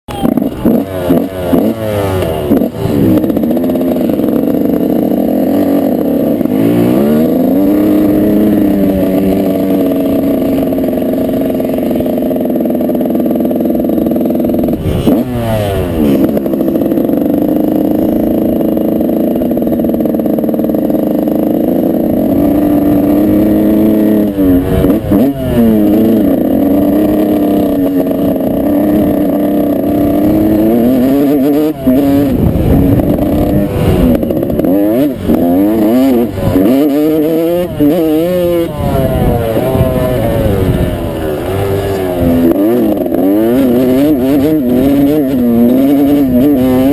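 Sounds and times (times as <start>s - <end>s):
dirt bike engine revving: 0.1s - 46.9s.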